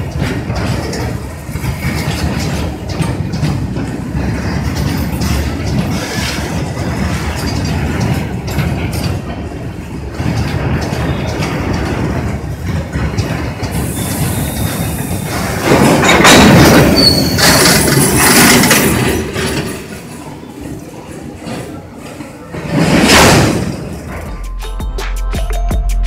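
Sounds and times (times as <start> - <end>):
train wheels clattering over rail joints: 0.0 - 24.3.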